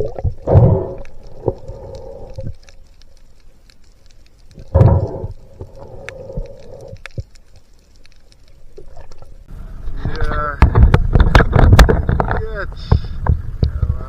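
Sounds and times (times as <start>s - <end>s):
faint underwater clicks and crackles: 0.0s - 14.0s
low gurgling rumble of water: 0.0s - 14.0s.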